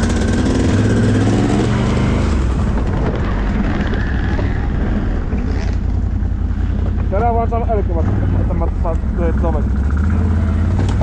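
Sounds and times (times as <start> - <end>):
quad engine revving: 0.0 - 6.4, 7.4 - 11.0
heavy rumbling noise: 0.0 - 11.0.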